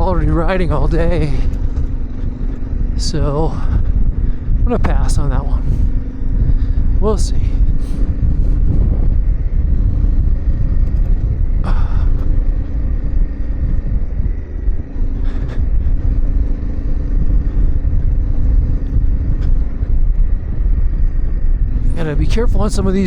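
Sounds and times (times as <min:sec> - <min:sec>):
motorcycle engine running: 0:00.0 - 0:23.0
wind and road rumble: 0:00.0 - 0:23.0.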